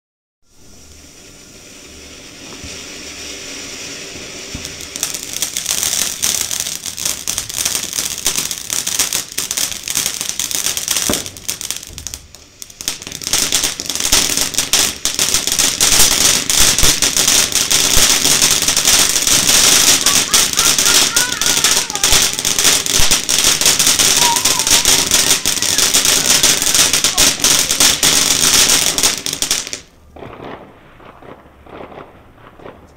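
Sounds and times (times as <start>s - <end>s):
ground fountain firework crackling hiss: 0.4s - 32.9s.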